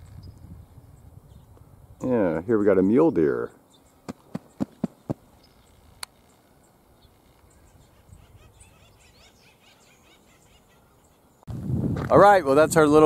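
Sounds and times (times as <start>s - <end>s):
distant birds chirping: 0.0s - 11.5s.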